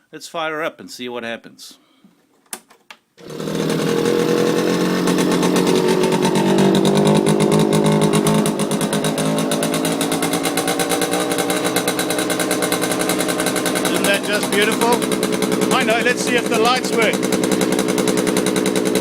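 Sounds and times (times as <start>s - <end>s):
two-stroke engine buzzing: 3.2s - 19.0s.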